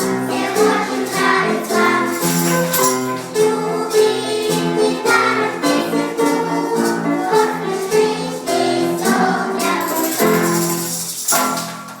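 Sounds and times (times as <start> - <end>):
children's choir singing: 0.0 - 11.7
instrumental accompaniment: 0.0 - 12.0.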